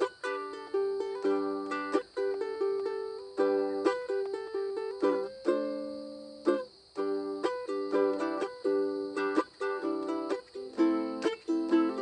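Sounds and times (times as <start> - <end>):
ukulele plucked melody notes: 0.0 - 12.0
ukulele strummed chords: 0.0 - 12.0.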